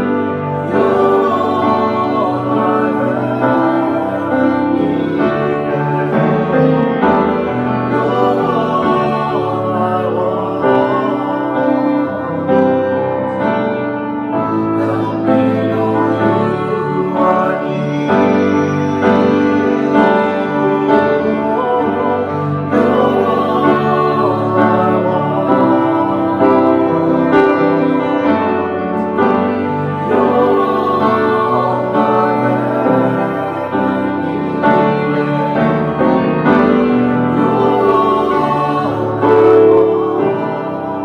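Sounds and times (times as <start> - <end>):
grand piano playing worship song: 0.0 - 41.0
person singing: 0.0 - 41.0.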